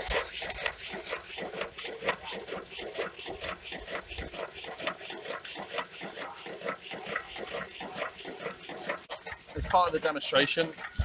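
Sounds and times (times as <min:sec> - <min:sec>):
stirling engine running rhythmically: 0:00.0 - 0:11.0.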